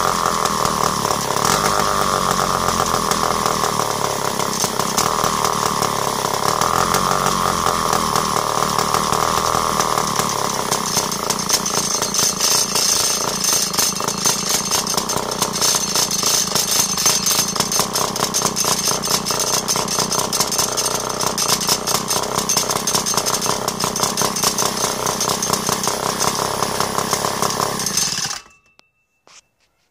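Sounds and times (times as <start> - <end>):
chainsaw engine running: 0.0 - 28.6.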